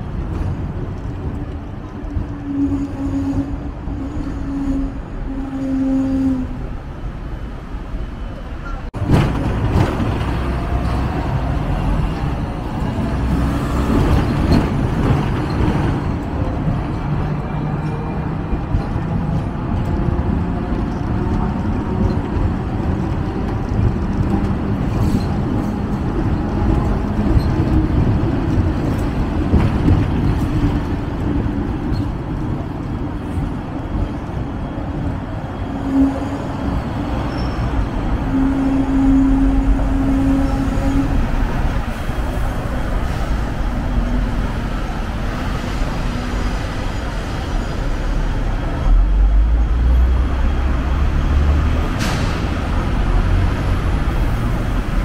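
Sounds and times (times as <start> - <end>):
road traffic: 0.0 - 55.0
tram rumbling on rails: 0.0 - 55.0.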